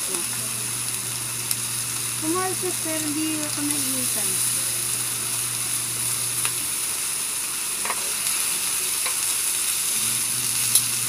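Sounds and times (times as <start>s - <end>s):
pork sizzling on a grill pan: 0.0s - 11.0s.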